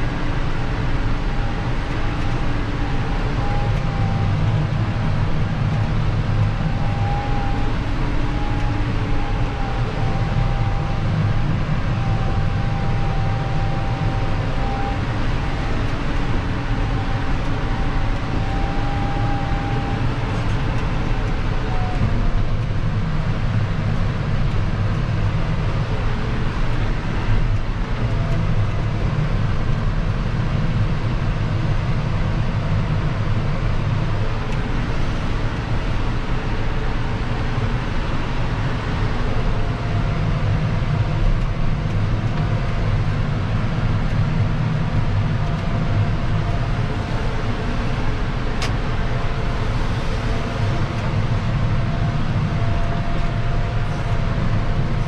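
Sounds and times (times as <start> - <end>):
faint steady whine: 0.0 - 55.0
tractor diesel engine running: 0.0 - 55.0.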